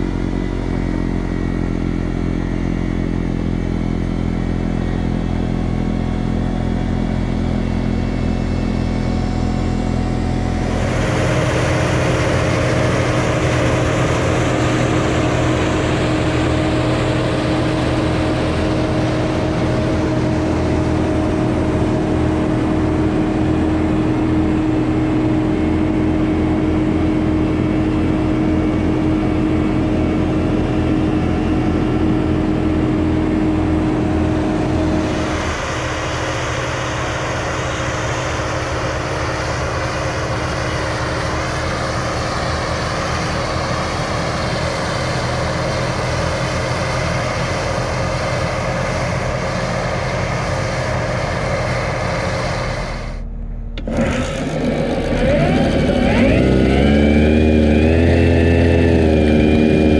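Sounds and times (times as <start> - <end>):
diesel engine running under load: 0.0 - 59.9
snow blower throwing snow: 5.6 - 27.0, 29.5 - 59.9.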